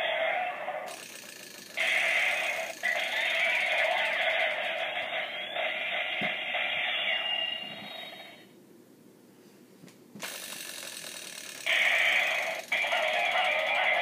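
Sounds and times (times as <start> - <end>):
toy mechanism noise: 0.0 - 8.4, 10.2 - 14.0
tinny toy music: 0.0 - 8.5, 10.2 - 14.0
toy electronic sound: 0.0 - 8.5, 10.2 - 14.0.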